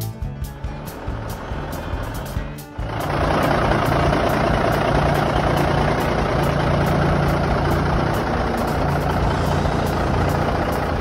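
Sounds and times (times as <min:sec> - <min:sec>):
diesel truck engine idling: 0:00.7 - 0:11.0.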